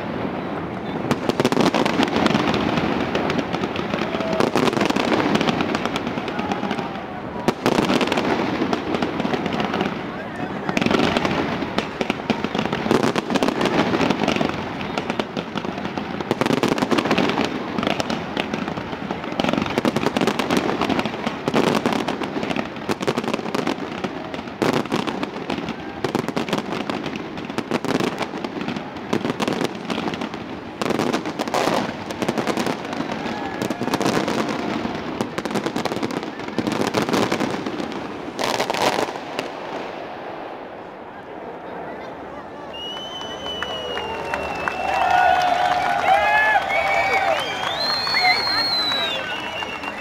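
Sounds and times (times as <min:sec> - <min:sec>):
fireworks launches and bangs: 0:00.0 - 0:40.9, 0:42.8 - 0:50.0
fireworks crackling: 0:00.0 - 0:50.0.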